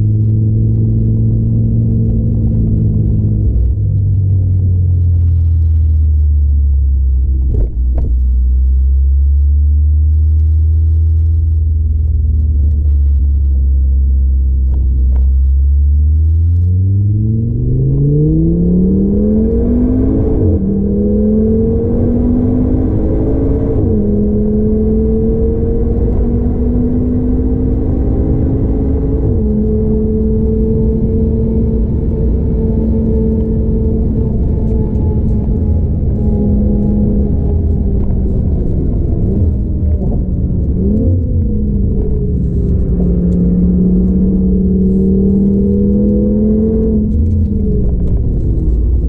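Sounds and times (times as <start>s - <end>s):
car engine accelerating hard: 0.0s - 49.0s
gear upshifts dropping revs: 0.0s - 49.0s.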